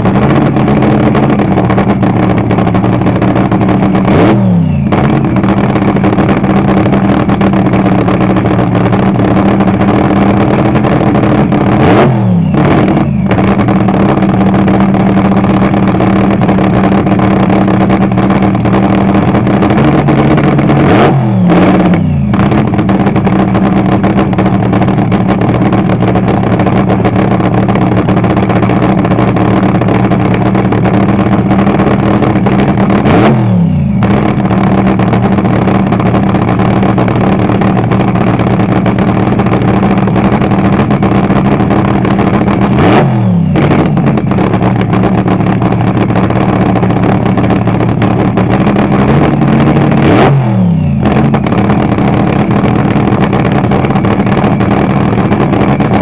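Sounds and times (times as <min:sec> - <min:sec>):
dragster engine cackling: 0:00.0 - 0:56.0.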